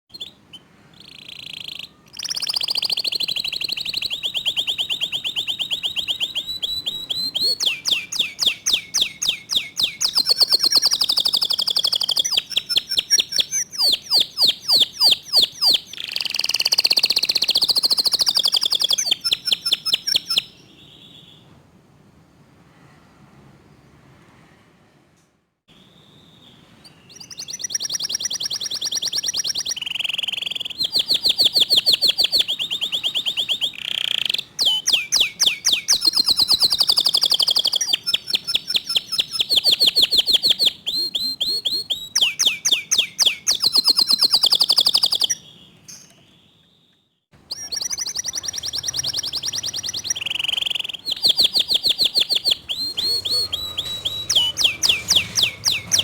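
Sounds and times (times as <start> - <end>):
canary singing trills: 0.1 - 21.4, 25.8 - 56.0.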